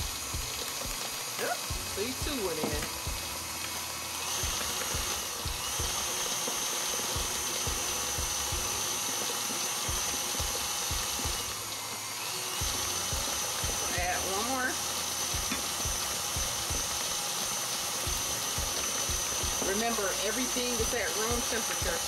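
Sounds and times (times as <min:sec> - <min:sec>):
high motor whine: 0:00.0 - 0:22.0
stand mixer humming: 0:00.0 - 0:22.0.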